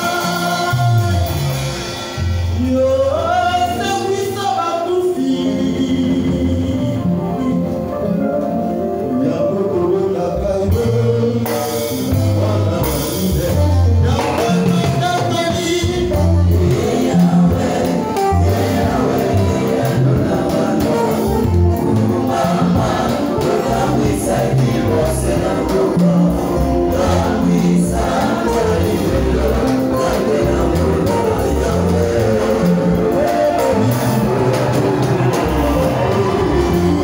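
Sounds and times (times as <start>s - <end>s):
man singing into microphone: 0.0s - 1.5s, 2.6s - 8.3s, 9.0s - 34.5s
choir singing: 0.0s - 7.9s, 9.0s - 37.0s
band with drum kit: 0.0s - 37.0s.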